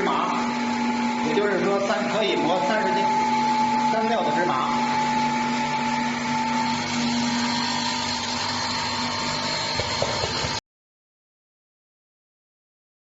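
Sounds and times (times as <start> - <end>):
grinding machine motor hum: 0.0 - 10.6.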